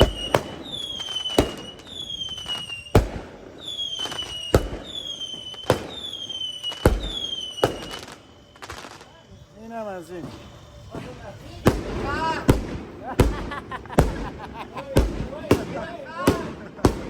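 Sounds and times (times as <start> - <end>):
firework bangs: 0.0 - 17.0
fireworks whistling: 0.0 - 17.0.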